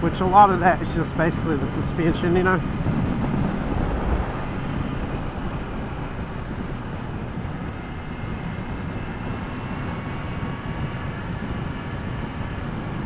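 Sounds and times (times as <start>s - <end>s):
rushing wind: 0.0s - 13.0s.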